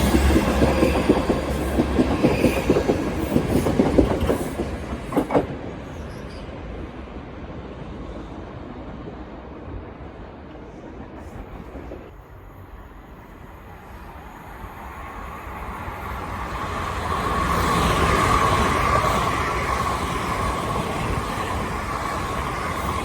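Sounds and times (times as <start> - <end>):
passenger train passing: 0.0 - 23.0
steady train whine: 0.0 - 23.0.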